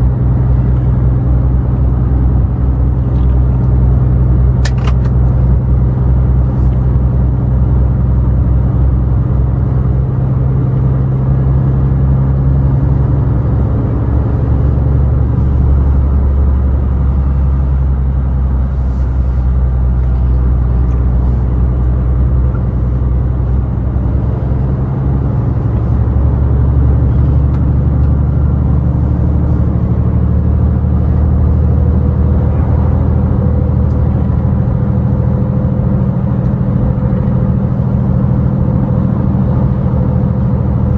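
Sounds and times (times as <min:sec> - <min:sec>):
road noise: 0:00.0 - 0:40.9
truck diesel engine drone: 0:00.0 - 0:40.9.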